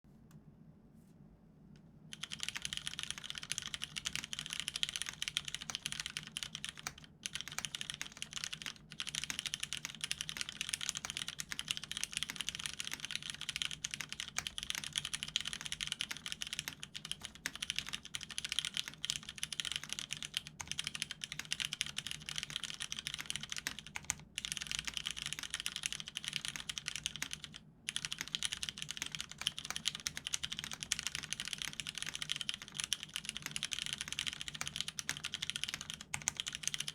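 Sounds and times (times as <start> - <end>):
fast typing on mechanical keyboard: 2.1 - 36.9.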